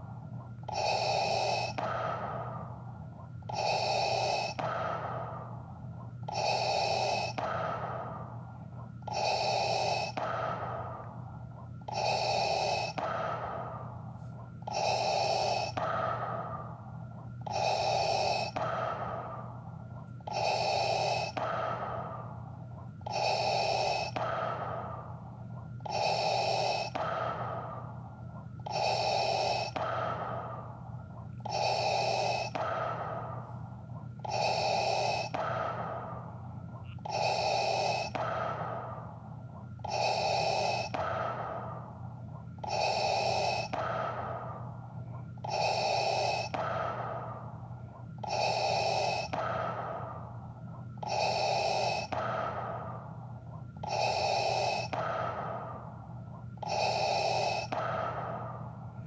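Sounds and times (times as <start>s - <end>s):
faint low hum: 0.0s - 59.0s
mechanical respirator breathing: 0.0s - 59.0s.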